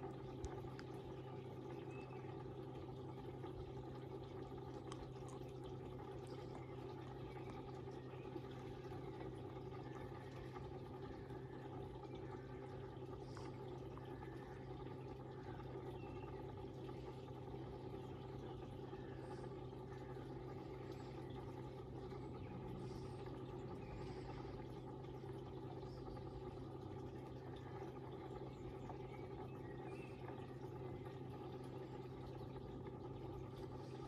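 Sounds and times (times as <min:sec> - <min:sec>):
pond pump humming: 0:00.0 - 0:34.0.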